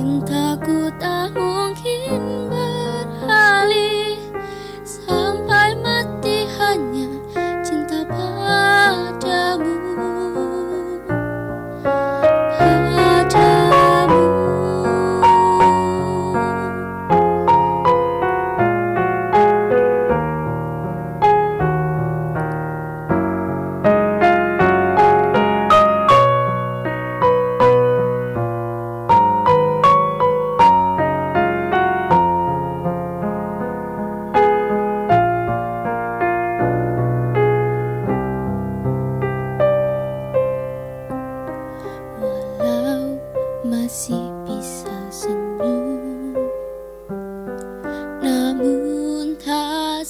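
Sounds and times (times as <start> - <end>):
piano ballad accompaniment: 0.0 - 50.0.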